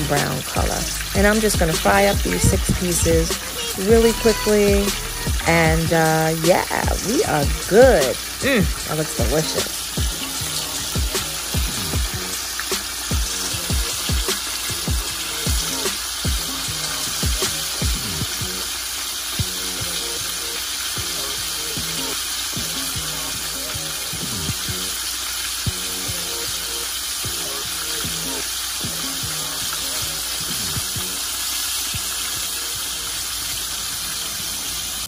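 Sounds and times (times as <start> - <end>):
background music: 0.0 - 35.0
fish deep-frying in oil: 0.0 - 35.0.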